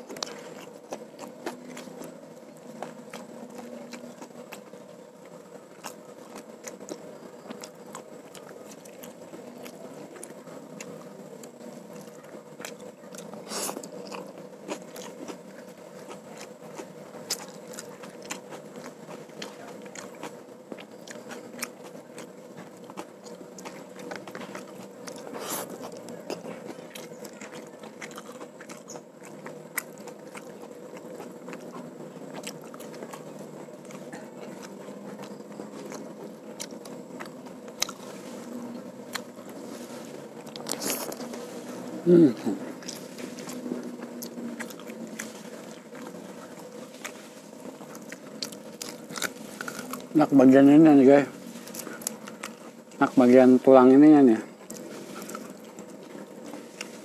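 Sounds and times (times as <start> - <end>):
crunchy chewing with mouth clicks: 0.0 - 57.0
faint steady hum: 0.0 - 57.0.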